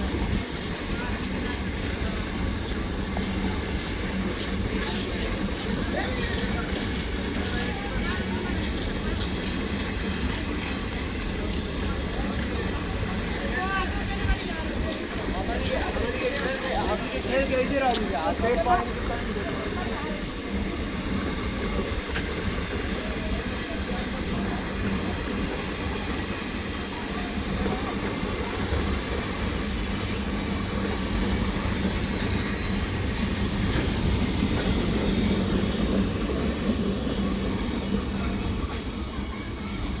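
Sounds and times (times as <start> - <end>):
freight train wheels on track: 0.0 - 40.0.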